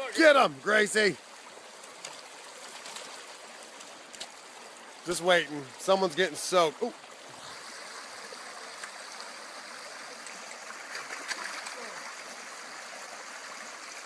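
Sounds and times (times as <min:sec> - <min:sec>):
creek running over rocks: 0:00.0 - 0:14.0.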